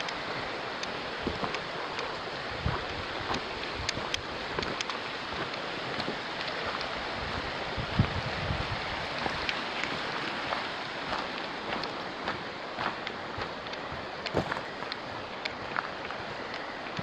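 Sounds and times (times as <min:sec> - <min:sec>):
river rapids rushing: 0:00.0 - 0:17.0
footsteps on gravel: 0:01.2 - 0:08.2, 0:09.2 - 0:17.0.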